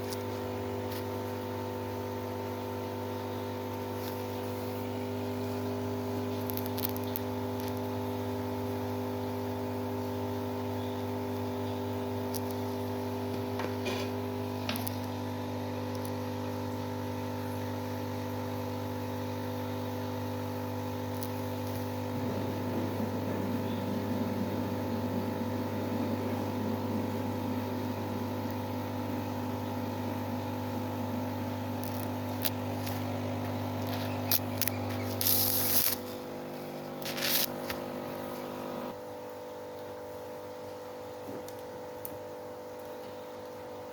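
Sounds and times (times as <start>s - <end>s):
small motor humming: 1.6s - 39.0s.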